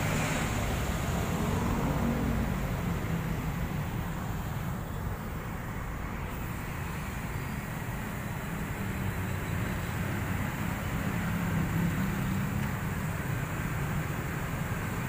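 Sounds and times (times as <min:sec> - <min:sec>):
low engine rumble: 0:00.0 - 0:15.0
outdoor background noise: 0:00.0 - 0:15.0.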